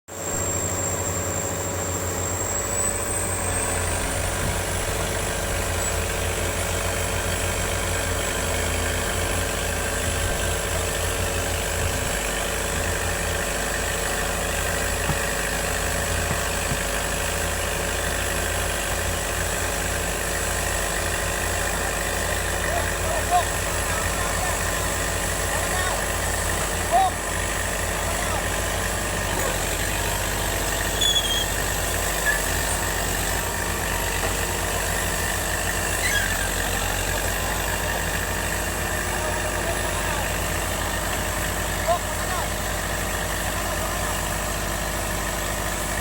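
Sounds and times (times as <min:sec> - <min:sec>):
heavy diesel excavator engines: 0:00.1 - 0:46.0.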